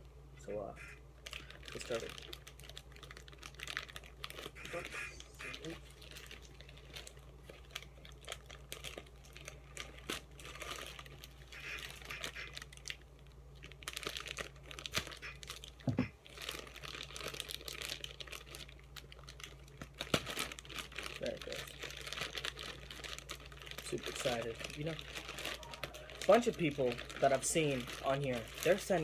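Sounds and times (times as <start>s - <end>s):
plastic mailer bag crinkling: 1.2s - 29.0s.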